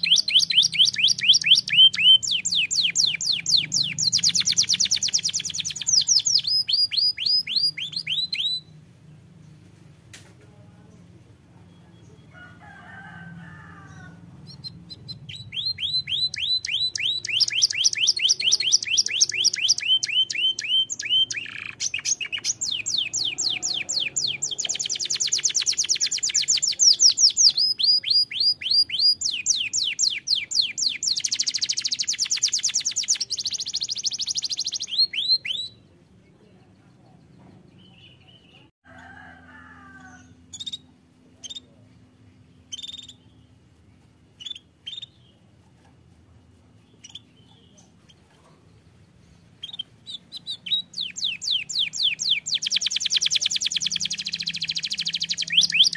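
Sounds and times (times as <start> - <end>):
canary singing trills: 0.0 - 9.7, 13.9 - 38.7, 40.0 - 55.9
faint bird chirps: 0.0 - 9.7, 13.8 - 38.7, 40.0 - 55.9.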